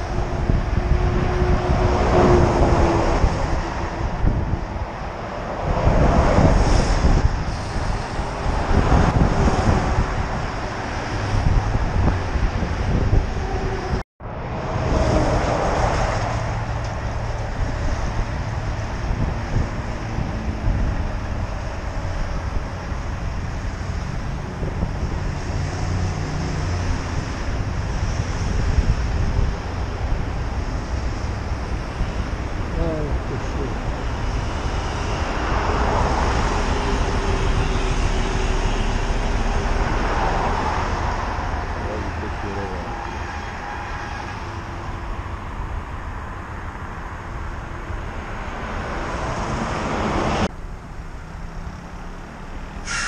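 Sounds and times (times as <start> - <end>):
wind on microphone: 0.0 - 43.5
vehicles passing: 0.0 - 53.0.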